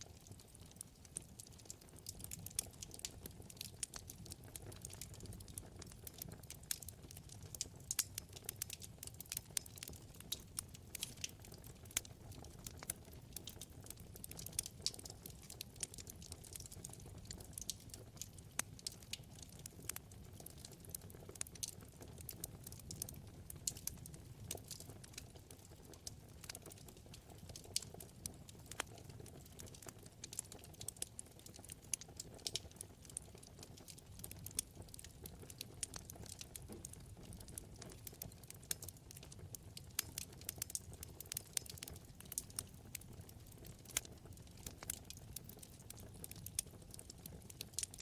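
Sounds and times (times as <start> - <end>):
wood fire crackling: 0.0 - 48.0
low rumble of flames: 0.1 - 48.0.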